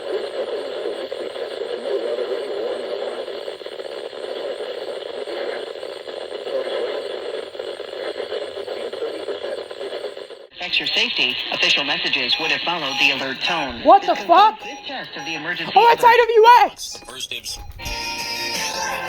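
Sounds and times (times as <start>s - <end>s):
radio static and crackle: 0.0s - 19.0s.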